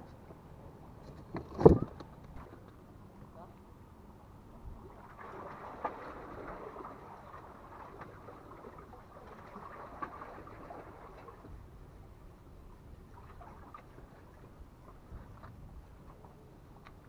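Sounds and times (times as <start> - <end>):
water lapping and trickling: 0.4 - 17.0.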